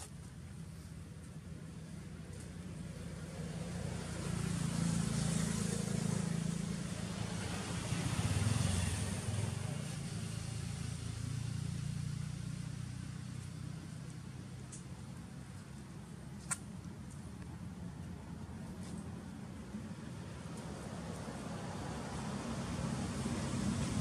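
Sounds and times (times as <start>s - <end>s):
passing road traffic: 0.0s - 24.0s.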